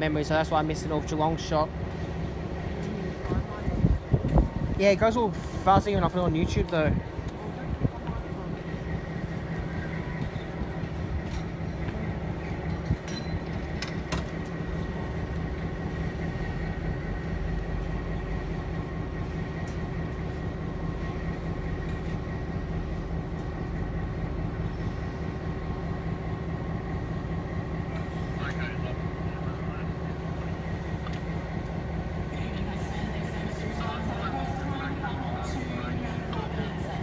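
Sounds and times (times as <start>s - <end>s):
train rumble and hum: 0.0s - 37.0s.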